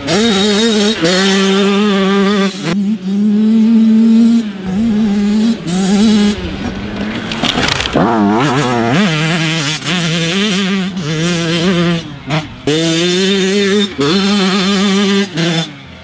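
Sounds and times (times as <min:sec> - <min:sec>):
two-stroke engine revving hard: 0:00.0 - 0:16.0.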